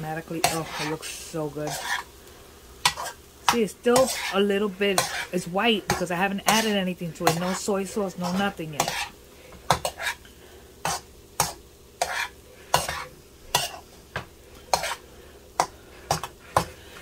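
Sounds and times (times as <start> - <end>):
rice sizzling: 0.0 - 17.0
metal spoon scraping a pan: 0.2 - 2.2, 2.8 - 13.9, 14.6 - 17.0.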